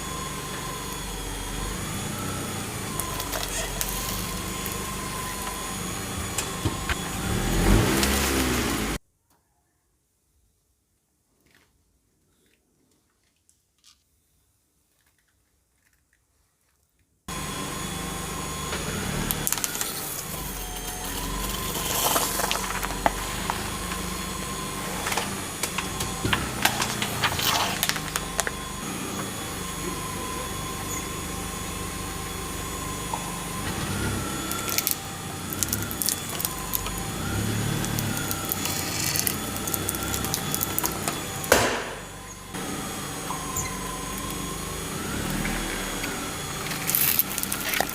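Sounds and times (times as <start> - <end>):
car engine running: 0.0 - 9.0, 17.3 - 47.9
objects crunching under tyres: 0.0 - 9.0, 18.3 - 47.9.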